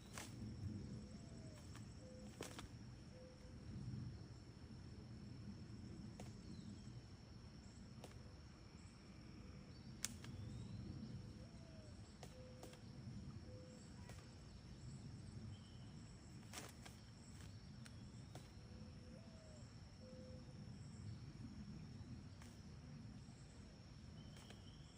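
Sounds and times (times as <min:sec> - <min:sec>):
high insect drone: 0:00.0 - 0:24.9.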